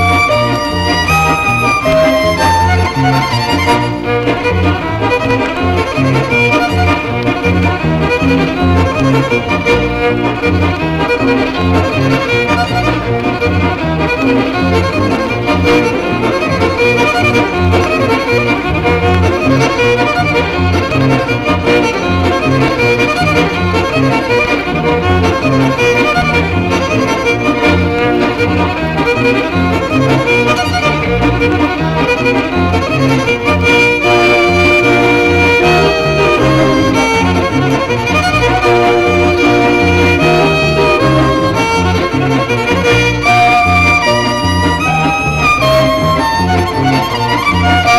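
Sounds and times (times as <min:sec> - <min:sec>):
bouncing bass line: 0:00.0 - 0:47.9
fiddle playing a reel: 0:00.0 - 0:47.9.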